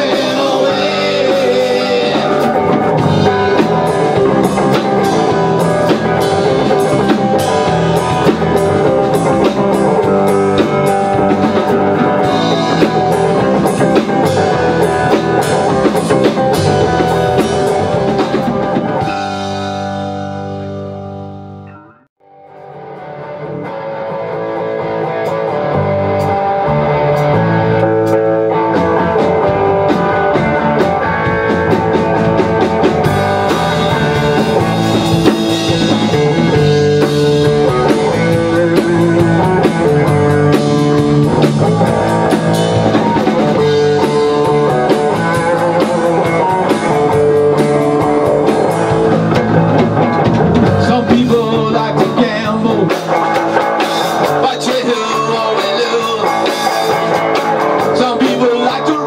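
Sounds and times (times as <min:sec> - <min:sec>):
drum kit with cymbal strokes: 0:00.0 - 0:21.6, 0:25.1 - 0:59.0
bass guitar: 0:00.0 - 0:59.0
electric guitar: 0:00.0 - 0:59.0.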